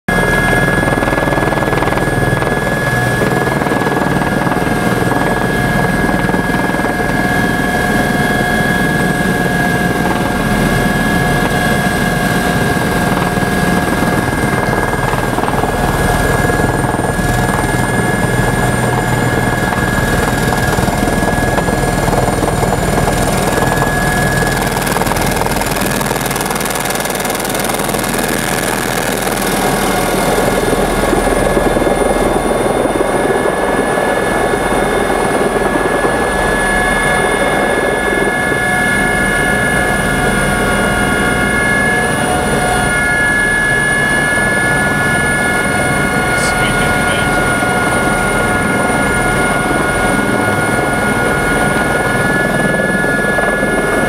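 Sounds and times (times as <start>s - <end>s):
helicopter engine and rotor: 0.1s - 54.0s.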